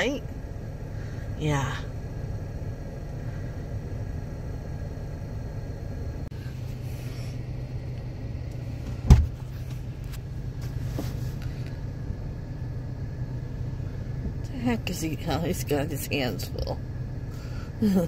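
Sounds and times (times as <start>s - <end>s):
van engine idling: 0.0s - 18.0s.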